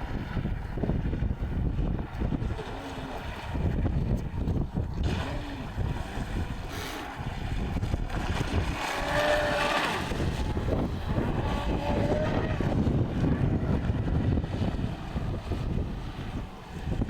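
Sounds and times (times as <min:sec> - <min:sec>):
small boat motor whine: 0:00.0 - 0:17.0
wind buffeting microphone: 0:00.0 - 0:17.0.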